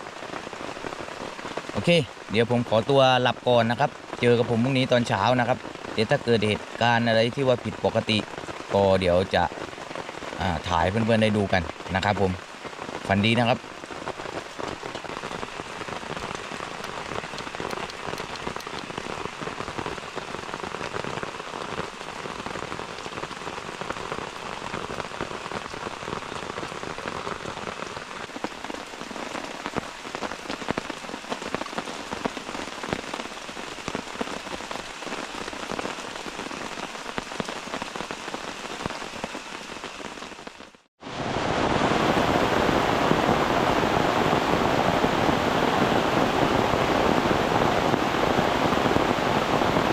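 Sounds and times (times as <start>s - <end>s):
heavy rain rushing: 0.0s - 49.9s
rain pattering on a tent: 0.0s - 49.9s.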